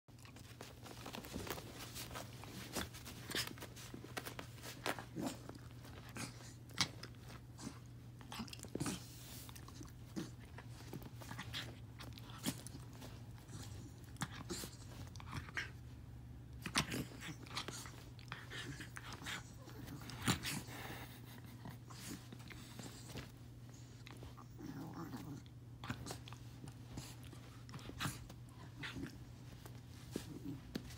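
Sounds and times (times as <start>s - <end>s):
dog squirming on carpet: 0.1s - 30.9s.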